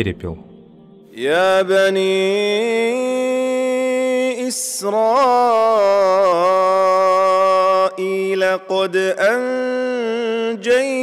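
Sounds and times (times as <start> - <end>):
man chanting melodic recitation: 1.2 - 11.0.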